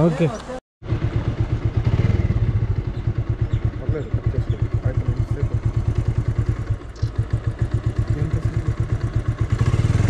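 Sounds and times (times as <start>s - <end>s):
small engine idling: 0.8s - 10.0s.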